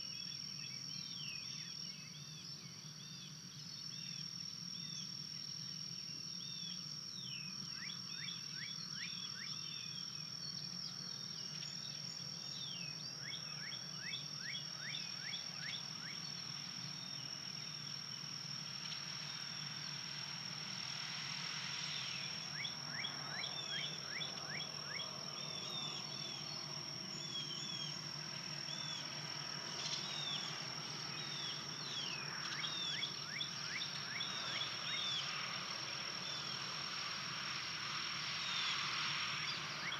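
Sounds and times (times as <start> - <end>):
high-pitched whine: 0.0 - 39.9.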